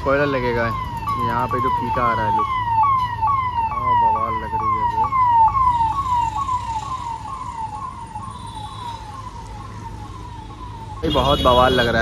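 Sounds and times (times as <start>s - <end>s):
electronic vehicle siren: 0.0s - 12.0s
low traffic hum: 0.0s - 12.0s.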